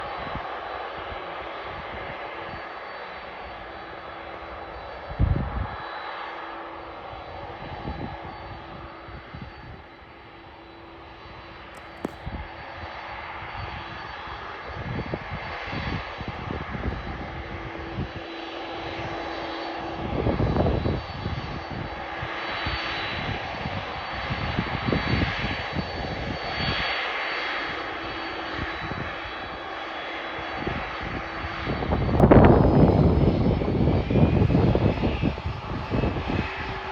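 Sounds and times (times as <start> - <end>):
jet engines humming: 0.8 - 36.9.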